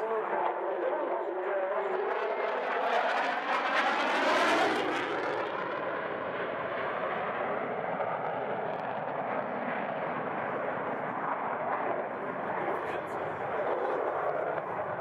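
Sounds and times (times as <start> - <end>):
jet engine roaring overhead: 0.0 - 15.0.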